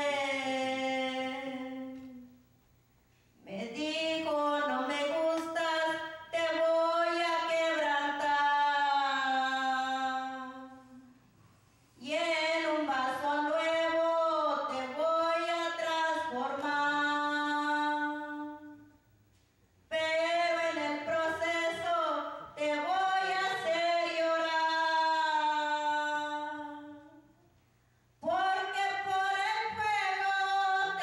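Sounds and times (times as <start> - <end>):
woman singing unaccompanied: 0.0 - 2.3, 3.5 - 11.1, 12.0 - 18.9, 19.9 - 27.3, 28.2 - 31.0.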